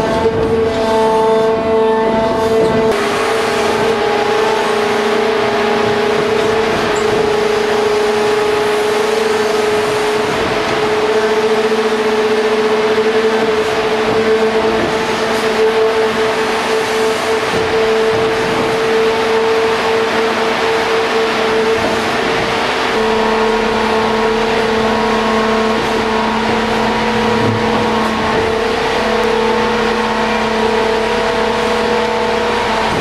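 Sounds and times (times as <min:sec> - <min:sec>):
high machine whine: 0:02.2 - 0:33.0
machine and rock clattering: 0:02.7 - 0:33.0.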